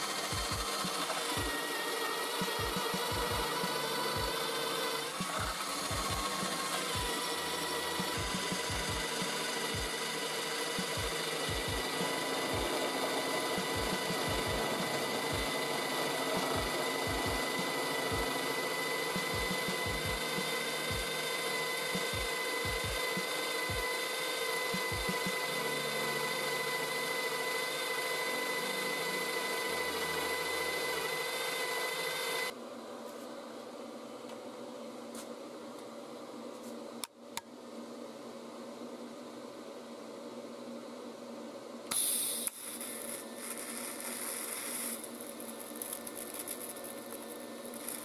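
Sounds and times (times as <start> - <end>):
printer motors whining: 0.0 - 37.0, 37.8 - 48.0
fan hum: 0.0 - 48.0.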